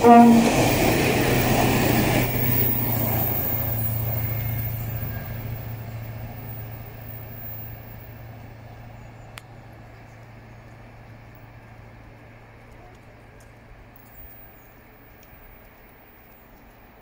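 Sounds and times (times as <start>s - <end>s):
train rumbling away: 0.0s - 17.0s.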